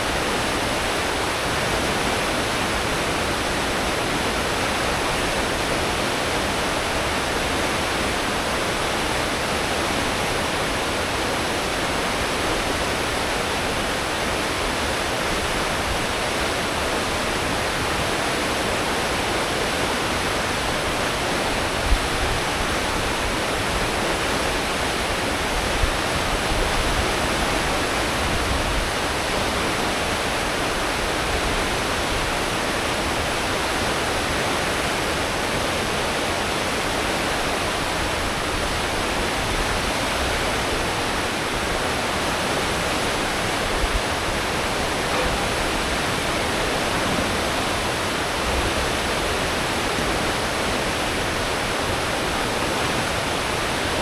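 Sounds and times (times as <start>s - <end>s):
ship wake rushing: 0.0s - 54.0s.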